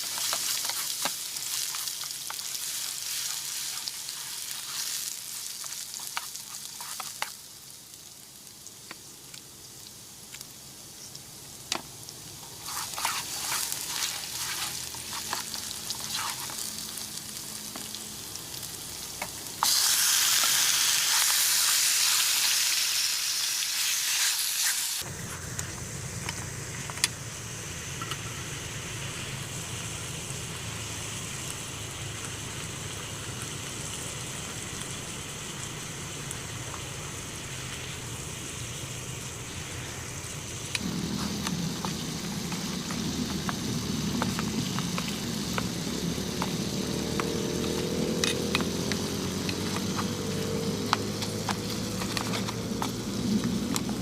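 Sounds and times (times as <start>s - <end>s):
food sizzling in a pan: 0.0s - 25.1s, 27.7s - 54.0s
loud sizzle of food in hot oil: 0.0s - 54.0s
steady hiss: 0.0s - 54.0s.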